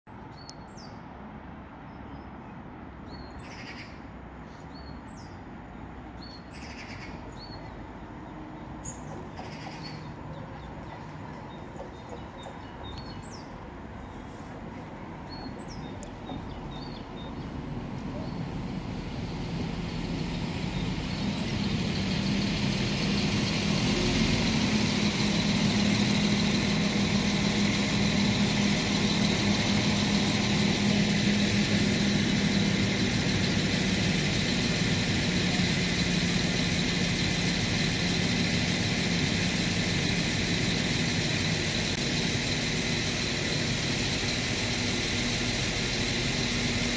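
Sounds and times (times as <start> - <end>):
diesel train engine hum: 0.1 - 46.9.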